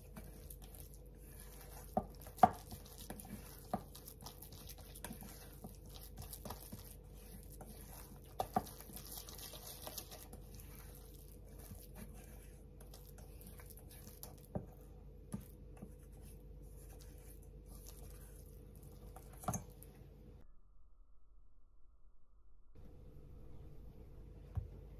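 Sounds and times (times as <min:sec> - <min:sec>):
spatula mashing wet mixture: 0:00.0 - 0:20.0.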